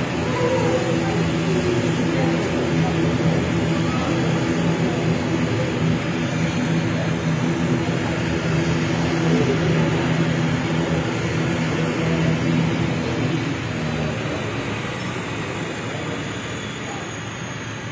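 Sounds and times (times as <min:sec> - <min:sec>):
broad rush of noise: 0:00.0 - 0:17.9
turboprop engines humming: 0:00.0 - 0:17.9.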